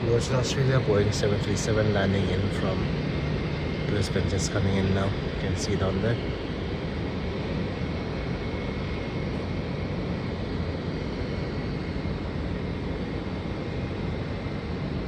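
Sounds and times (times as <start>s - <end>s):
jet airliner engines rumbling: 0.0s - 15.0s.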